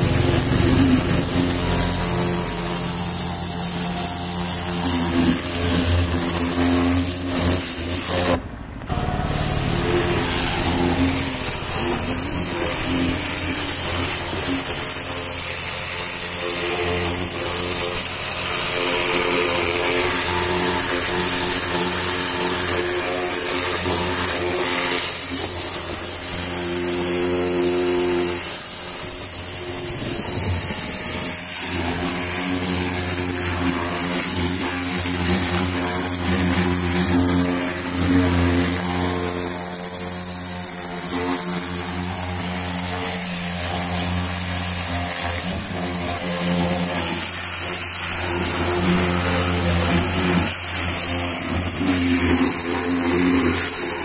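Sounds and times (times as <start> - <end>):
pressure washer pump humming: 0.0 - 54.0
water jet hissing on tyre: 0.0 - 54.0.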